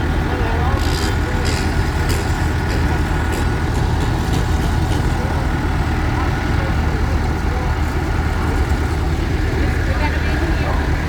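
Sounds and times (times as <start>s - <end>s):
heavy vehicle engines rumbling: 0.0s - 11.0s.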